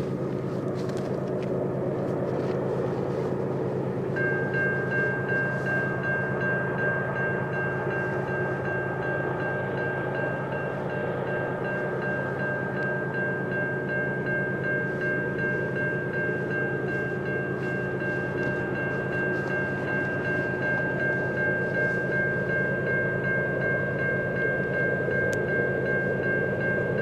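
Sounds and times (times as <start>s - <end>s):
diesel locomotives droning: 0.0s - 27.0s
bell ringing: 4.0s - 27.0s.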